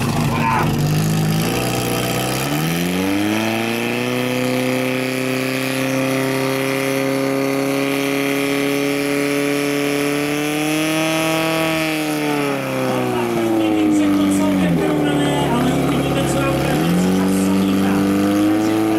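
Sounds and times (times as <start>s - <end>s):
pump engine running at full revs: 0.0s - 18.9s.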